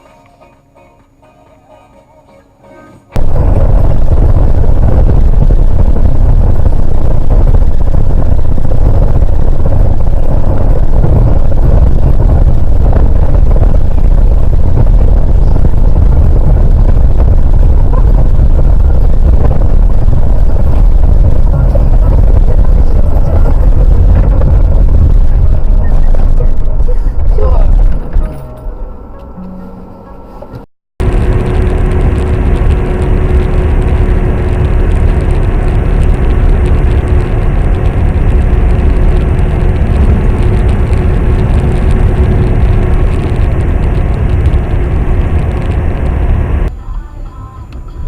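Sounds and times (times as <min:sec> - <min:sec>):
vehicle and road rumble: 0:03.1 - 0:47.9.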